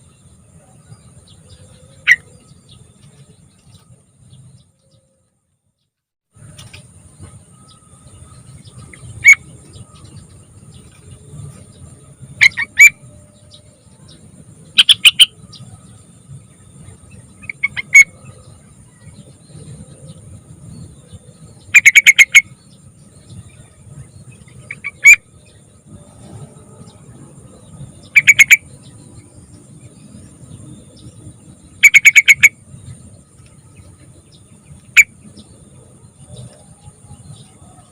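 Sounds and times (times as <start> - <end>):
faint high whine: 6.4 - 37.9.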